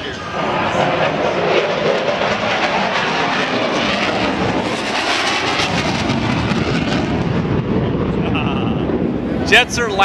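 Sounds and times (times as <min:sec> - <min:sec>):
jet aircraft flying past: 0:00.0 - 0:10.0.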